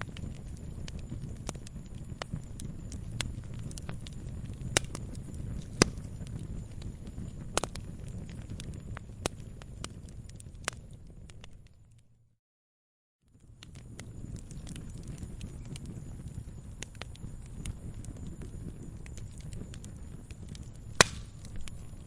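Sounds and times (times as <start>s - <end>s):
campfire crackling and popping: 0.0s - 12.2s, 13.3s - 22.0s.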